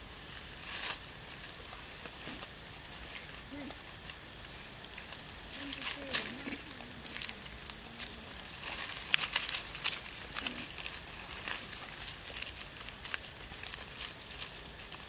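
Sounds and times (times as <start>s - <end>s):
dry leaves crackling: 0.0s - 15.0s
light hiss: 0.0s - 15.0s.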